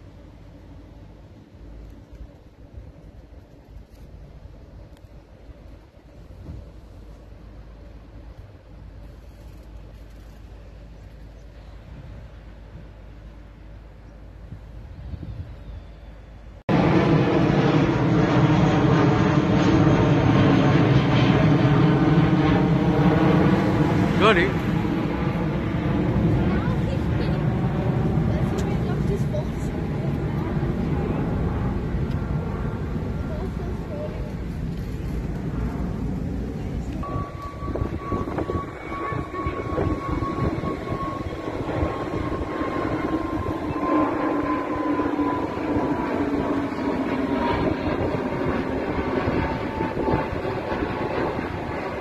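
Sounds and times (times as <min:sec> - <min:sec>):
jet airliner passing overhead: 0:00.0 - 0:52.0.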